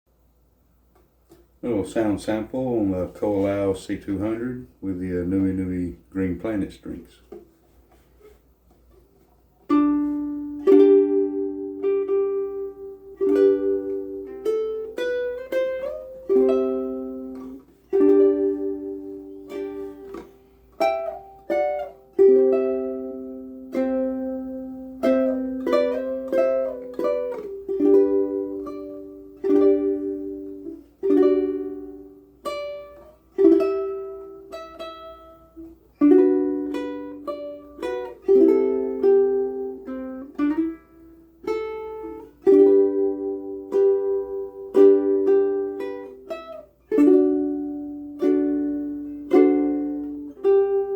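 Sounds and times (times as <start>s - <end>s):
ukulele strummed and picked: 0.8s - 50.9s.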